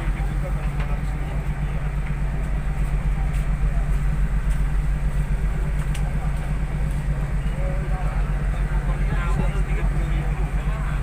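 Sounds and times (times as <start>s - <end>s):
ship engines droning: 0.0s - 11.0s.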